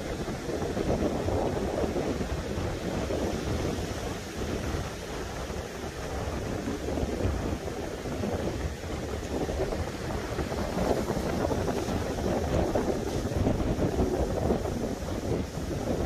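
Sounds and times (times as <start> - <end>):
small waves breaking on beach: 0.0 - 16.0
wind buffeting microphone: 0.0 - 16.0.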